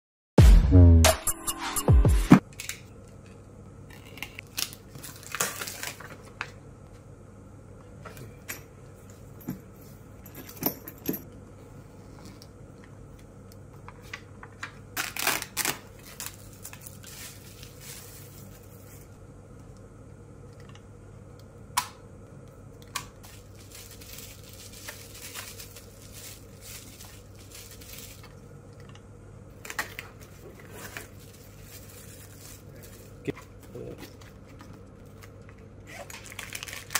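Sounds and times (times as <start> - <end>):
steady low hum: 2.3 - 36.1.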